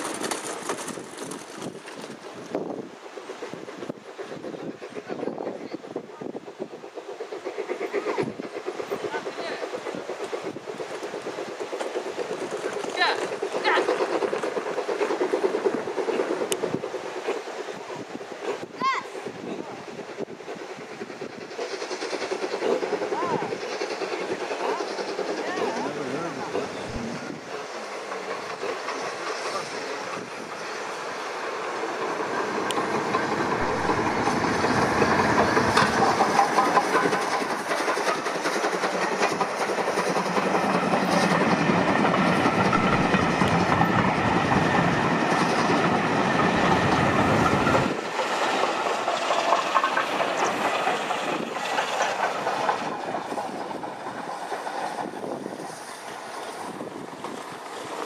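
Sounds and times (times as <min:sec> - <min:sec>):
steam locomotive passing: 0:00.0 - 0:58.0.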